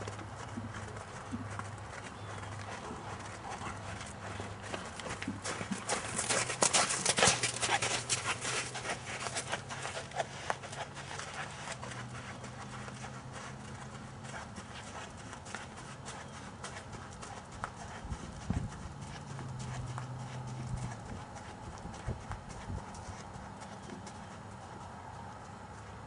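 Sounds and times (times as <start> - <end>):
horse hooves on sand: 0.0 - 26.0.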